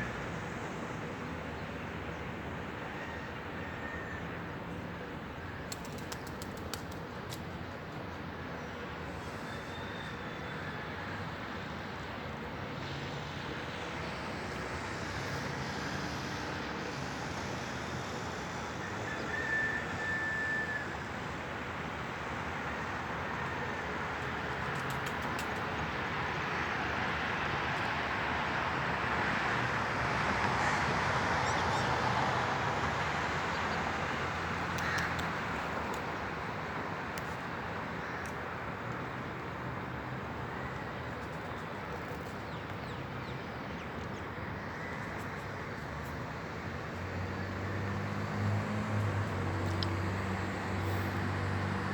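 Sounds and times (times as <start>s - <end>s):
distant traffic: 0.0s - 51.9s.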